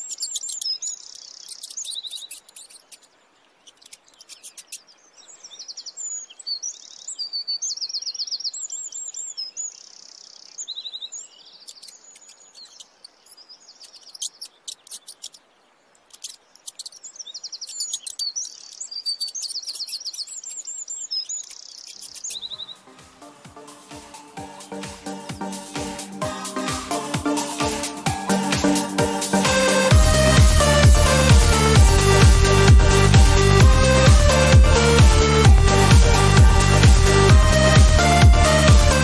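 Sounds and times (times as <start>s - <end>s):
sharp ticking bird calls: 0.0s - 39.0s
small birds chirping and trilling: 0.0s - 39.0s.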